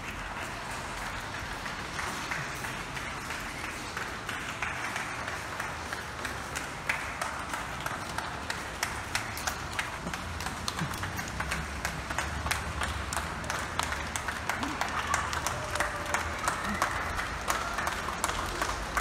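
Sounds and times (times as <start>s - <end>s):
crowd clapping: 0.0s - 19.0s.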